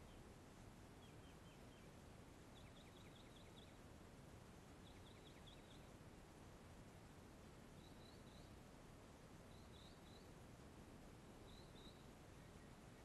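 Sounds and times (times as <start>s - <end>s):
faint songbird singing: 0.0s - 6.3s, 7.0s - 13.0s
low outdoor hiss: 0.0s - 13.0s.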